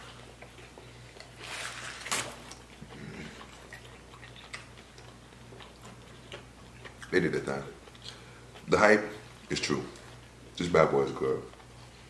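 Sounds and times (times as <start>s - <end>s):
chewing with crunches: 0.0s - 12.0s.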